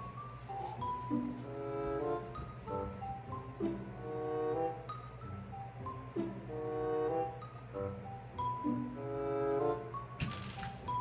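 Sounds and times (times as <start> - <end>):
light melody over bass line: 0.0 - 9.9.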